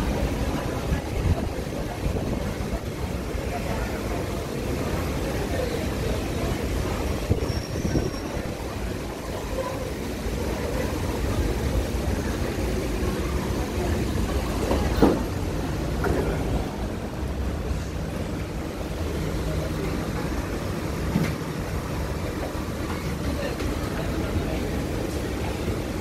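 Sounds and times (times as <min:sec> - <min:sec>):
metro train rumbling: 0:00.0 - 0:26.0.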